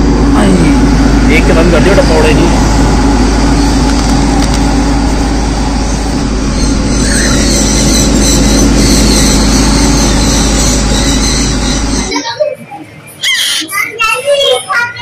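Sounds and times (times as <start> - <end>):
loud traffic noise: 0.0 - 15.0
vehicle engine hum: 0.0 - 15.0.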